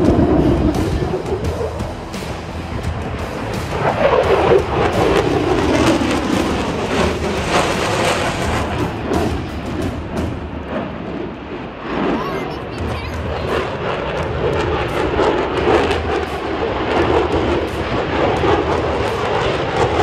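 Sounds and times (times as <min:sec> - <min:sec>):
fighter jet flying by: 0:00.0 - 0:20.0.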